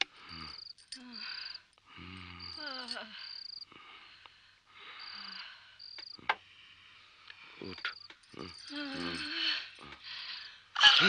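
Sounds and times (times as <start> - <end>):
crickets chirping: 0.0 - 10.8.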